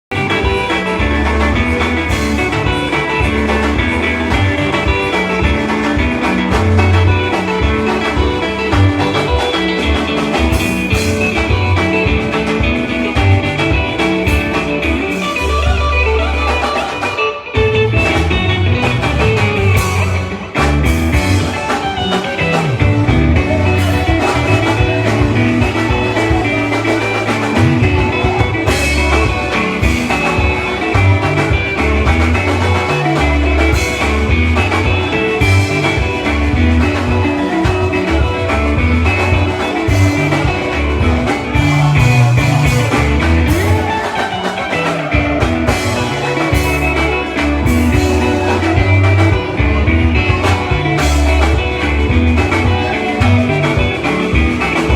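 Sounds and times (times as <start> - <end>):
deep bass line: 0.0 - 16.5, 17.6 - 21.8, 22.4 - 44.0, 45.1 - 54.9
guitar: 0.0 - 54.9.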